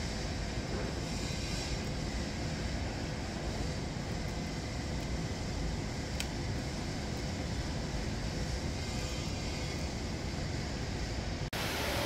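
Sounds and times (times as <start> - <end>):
machinery and ventilation hum: 0.0 - 12.0.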